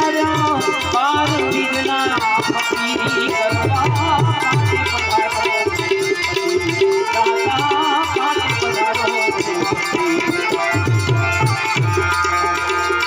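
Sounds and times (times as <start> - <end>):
hand drum rhythm: 0.0 - 13.0
wavering melody line: 0.0 - 13.0.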